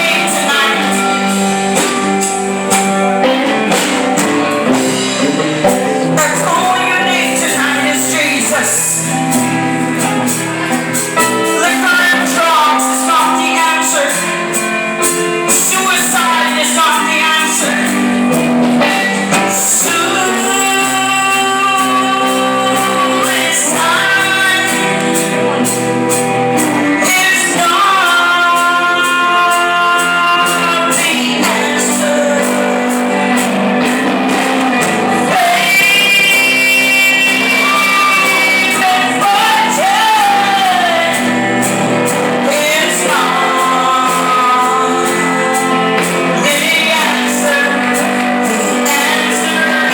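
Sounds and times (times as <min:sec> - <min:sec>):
instrumental accompaniment: 0:00.0 - 0:49.9.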